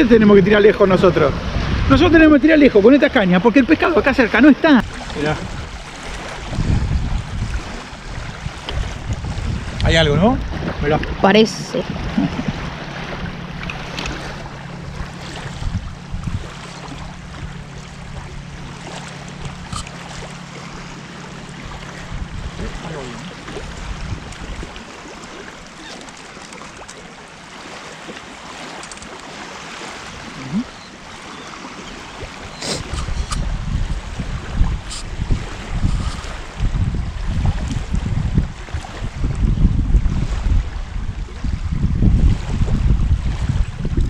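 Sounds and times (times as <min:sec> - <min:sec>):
wind on microphone: 0:00.0 - 0:26.0, 0:29.9 - 0:44.0
waves lapping on sandy shore: 0:00.0 - 0:44.0.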